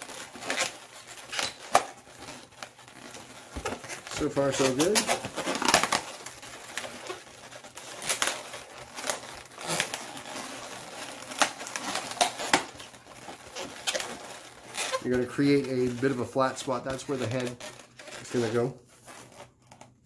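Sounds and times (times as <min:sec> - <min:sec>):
balloons squeaking and rubbing: 0:00.0 - 0:20.0.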